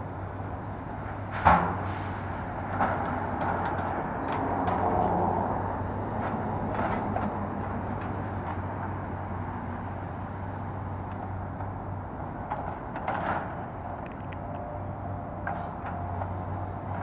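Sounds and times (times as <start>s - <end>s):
excavator engine drone: 2.3s - 17.0s.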